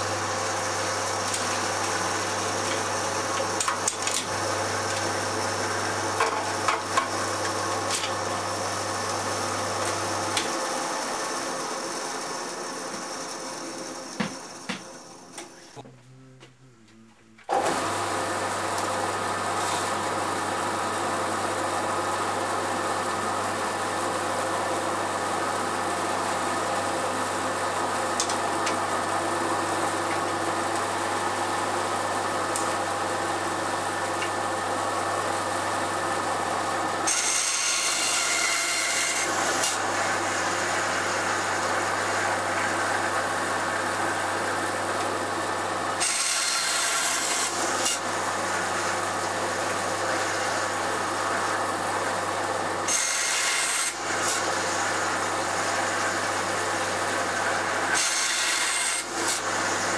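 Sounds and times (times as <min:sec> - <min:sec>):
bandsaw motor humming: 0:00.0 - 0:59.9.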